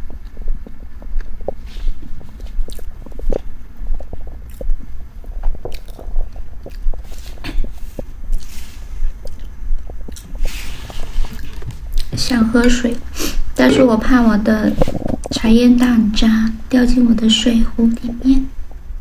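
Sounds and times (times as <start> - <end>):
close-up chewing: 0.0 - 19.0.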